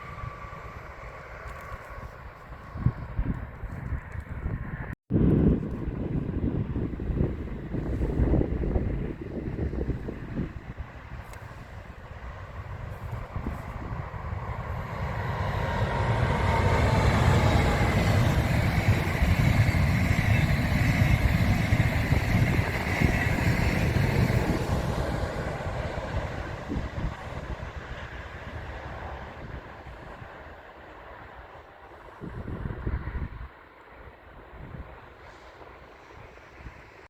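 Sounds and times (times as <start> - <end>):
train rumble and rail noise: 0.0 - 37.0.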